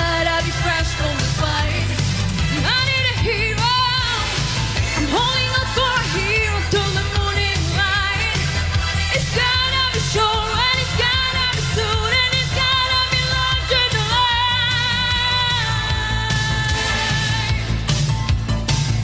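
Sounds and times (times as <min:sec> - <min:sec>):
woman singing into microphone: 0:00.0 - 0:17.7
pop music accompaniment: 0:00.0 - 0:19.0.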